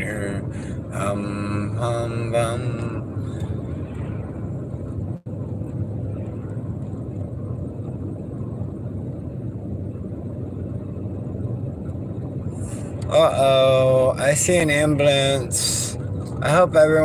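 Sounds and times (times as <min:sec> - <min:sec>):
road and engine rumble in a vehicle: 0:00.0 - 0:17.0.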